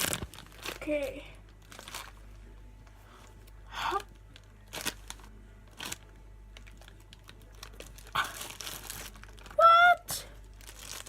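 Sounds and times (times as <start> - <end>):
plastic packaging crinkling: 0.0 - 2.5, 3.2 - 11.0
low steady hum: 0.0 - 11.0.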